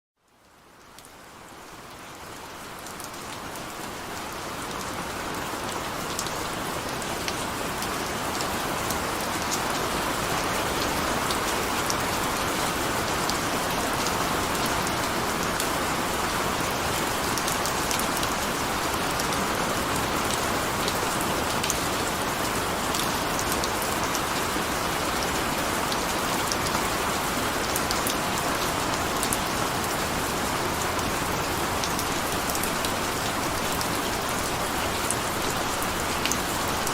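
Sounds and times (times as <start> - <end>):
rain falling: 0.2 - 36.9.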